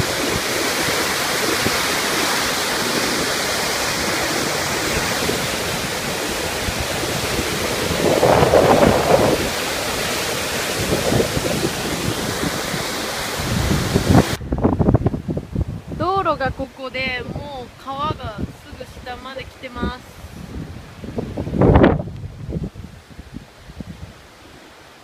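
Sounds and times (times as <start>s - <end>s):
fast river water rushing: 0.0s - 14.9s, 16.0s - 25.0s
wind on microphone: 0.0s - 24.6s.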